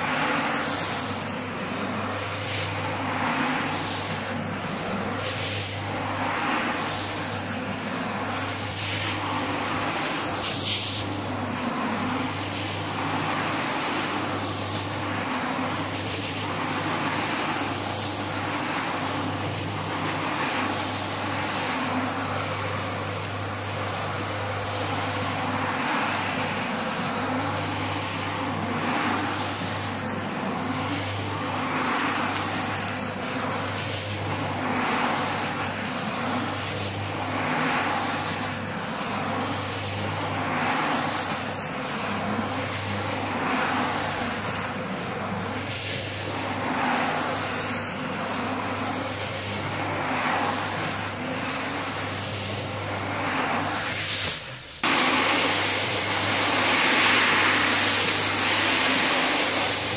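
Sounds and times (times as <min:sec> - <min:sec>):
wet brush swishing through rug: 0:00.0 - 0:59.9.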